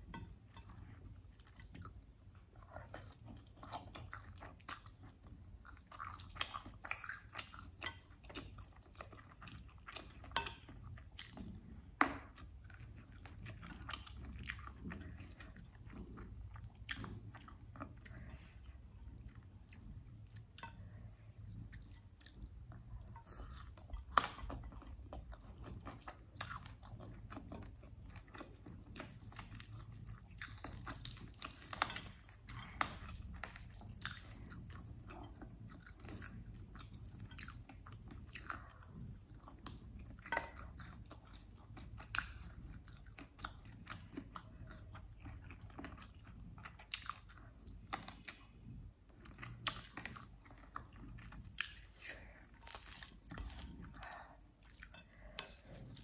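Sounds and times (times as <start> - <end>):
chewing and biting: 0.5 - 56.0.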